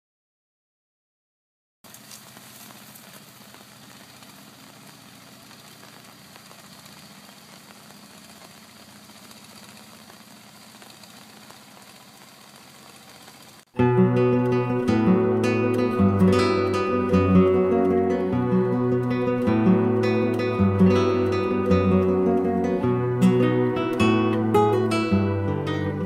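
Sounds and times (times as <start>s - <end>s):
outdoor hiss: 1.9s - 26.0s.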